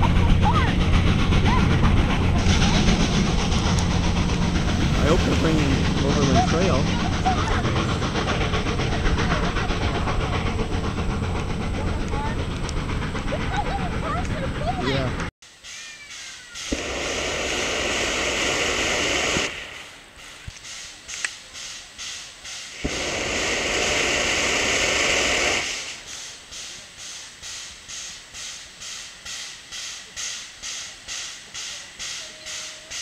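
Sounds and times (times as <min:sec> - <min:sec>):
steam locomotive chuffing: 0:00.0 - 0:33.0
steam locomotive hissing steam: 0:00.0 - 0:33.0.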